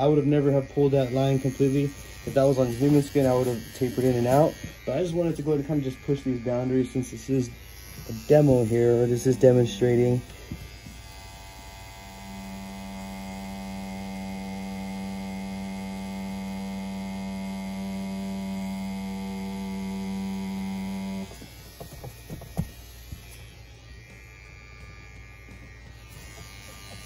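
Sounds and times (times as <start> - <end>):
tattoo pen motor buzzing: 0.0 - 27.0.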